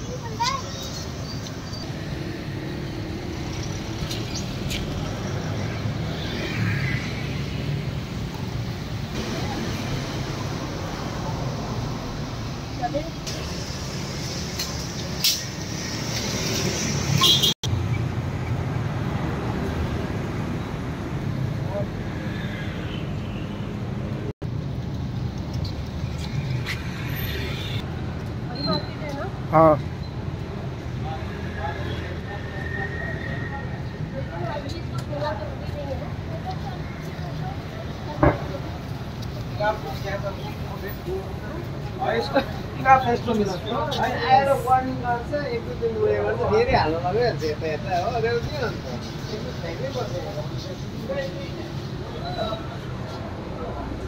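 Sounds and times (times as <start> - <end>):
traffic rumble: 0.0 - 54.0.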